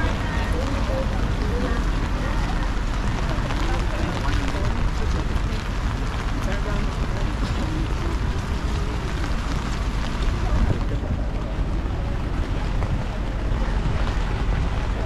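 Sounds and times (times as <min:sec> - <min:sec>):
faint voices: 0:00.0 - 0:15.0
heavy low rumble: 0:00.0 - 0:15.0
rain: 0:00.0 - 0:15.0.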